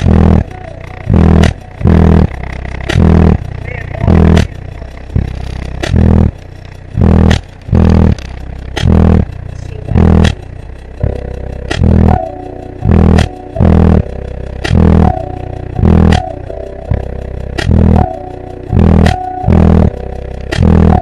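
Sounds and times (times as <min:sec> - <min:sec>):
bass-heavy music from subwoofers: 0:00.0 - 0:21.0.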